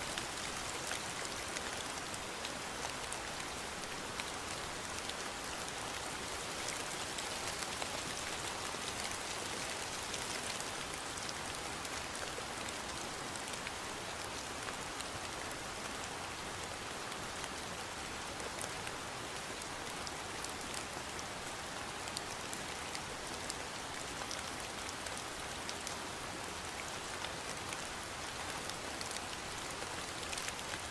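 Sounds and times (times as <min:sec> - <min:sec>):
steady rainfall: 0:00.0 - 0:30.9.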